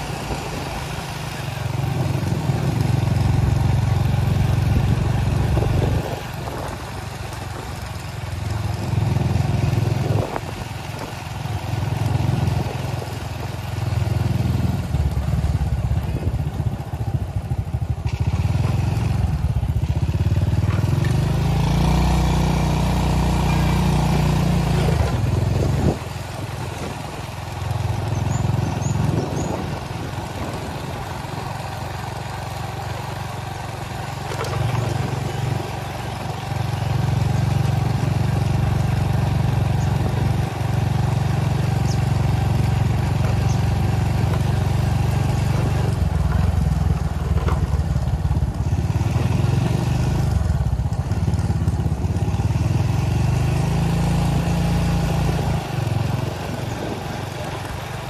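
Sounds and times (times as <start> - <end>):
motor vehicle rumbling: 0.0 - 58.0.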